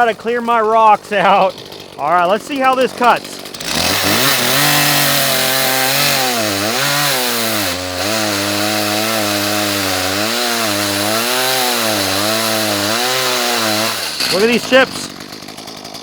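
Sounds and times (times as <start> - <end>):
chainsaw cutting log: 0.0 - 16.0.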